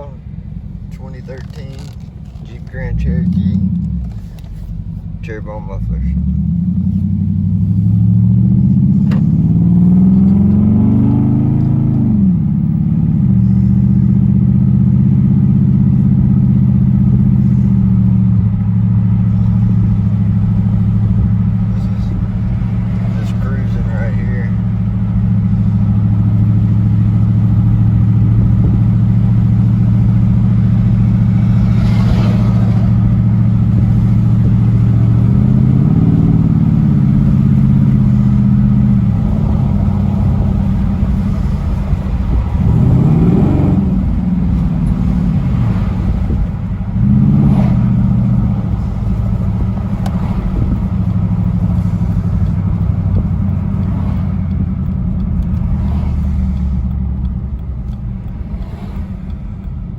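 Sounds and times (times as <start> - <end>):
car exhaust drone: 0.0 - 59.9.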